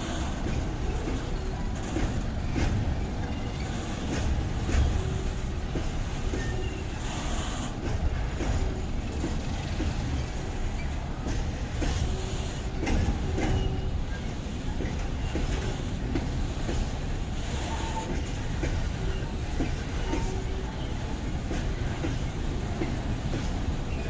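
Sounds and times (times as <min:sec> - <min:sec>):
wheel squeals: 0:00.0 - 0:07.7, 0:08.5 - 0:16.0, 0:17.4 - 0:24.0
train rumbling by: 0:00.0 - 0:24.0
wheels clattering over rail joints: 0:00.0 - 0:24.0.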